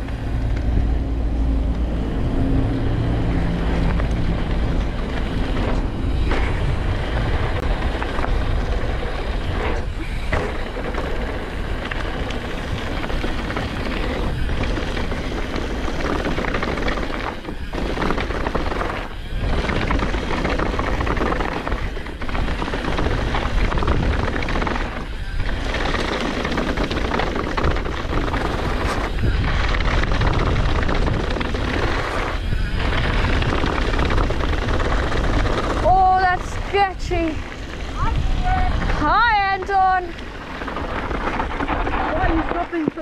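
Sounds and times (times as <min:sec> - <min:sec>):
tyres rolling over gravel: 0:00.0 - 0:43.0
wind buffeting microphone: 0:00.0 - 0:43.0.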